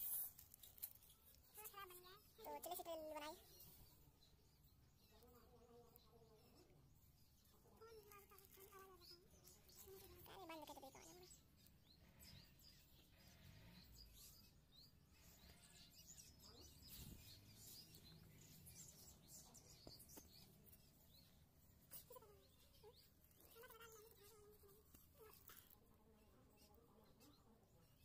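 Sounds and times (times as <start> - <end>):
faint birds chirping: 0.0 - 28.0.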